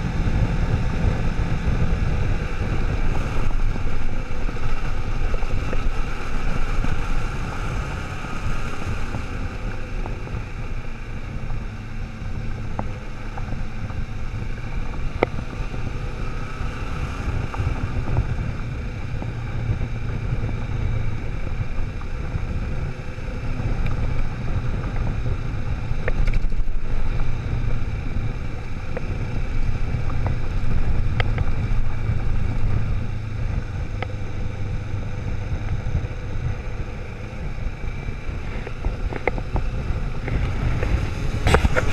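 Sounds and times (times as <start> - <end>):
motorcycle engine and tyre rumble: 0.0 - 41.9
wind noise on microphone: 0.0 - 41.9.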